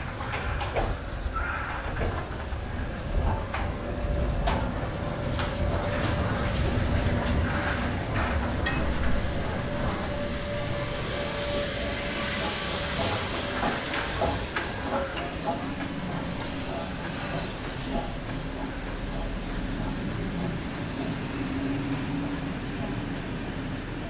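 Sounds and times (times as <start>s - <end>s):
steam hissing: 0.0s - 24.0s
steam locomotive rumbling past: 0.0s - 24.0s
wheels clicking on rails: 0.0s - 24.0s.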